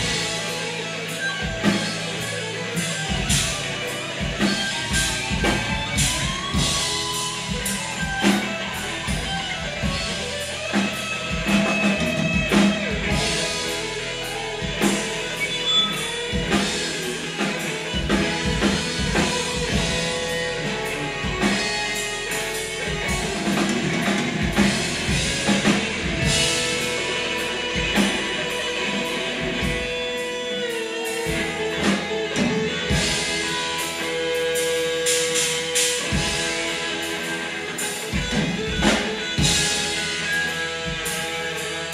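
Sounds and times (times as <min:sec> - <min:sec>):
drum kit: 0:00.0 - 0:41.9
electric guitar: 0:00.0 - 0:41.9
live rock band playing: 0:00.0 - 0:41.9.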